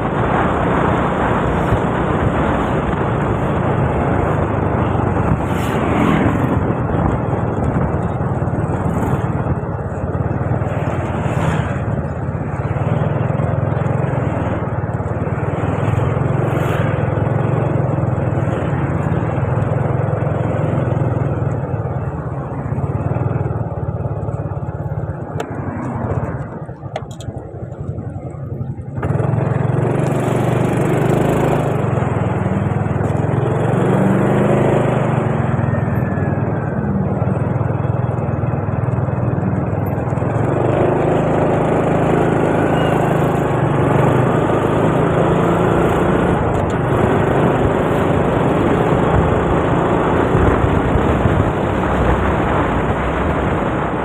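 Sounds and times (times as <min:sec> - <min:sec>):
motor scooter engine: 0:00.0 - 0:54.0
wind rushing over microphone: 0:00.0 - 0:54.0.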